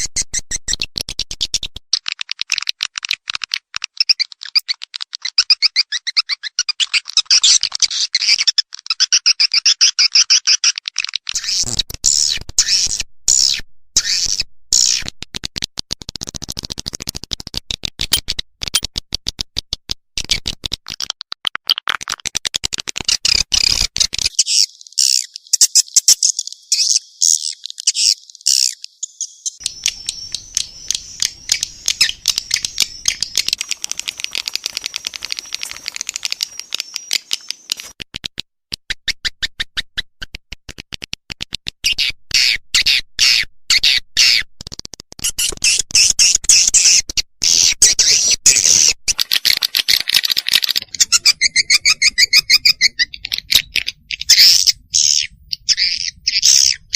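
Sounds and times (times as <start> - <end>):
bird chirps and clicks: 0.0 - 56.9.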